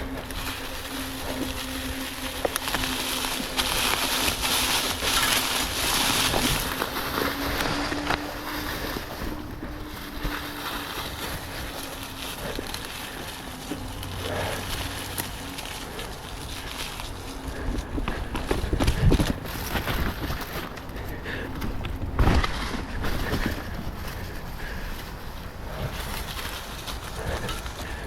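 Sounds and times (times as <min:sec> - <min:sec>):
bike tyre and drivetrain noise: 0:00.0 - 0:28.0
steady low hum: 0:00.0 - 0:28.0.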